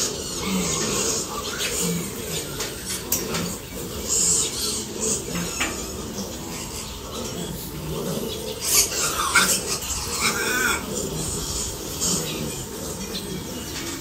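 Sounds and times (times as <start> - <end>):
piglets grunting: 0.0 - 14.0
piglets squeaking: 0.0 - 14.0.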